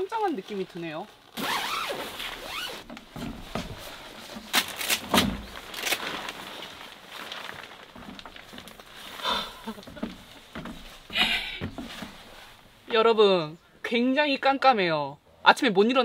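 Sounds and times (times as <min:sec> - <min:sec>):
tent fabric rustling: 0:00.0 - 0:12.9.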